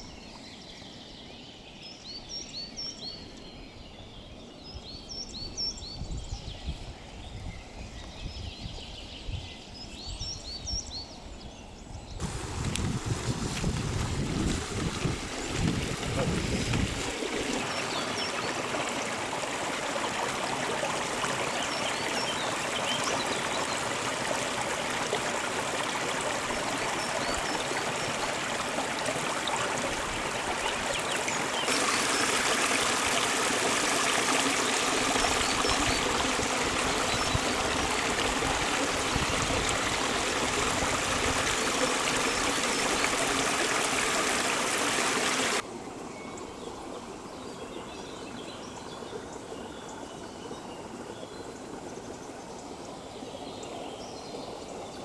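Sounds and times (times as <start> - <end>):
stream trickling and babbling: 0.0 - 55.0.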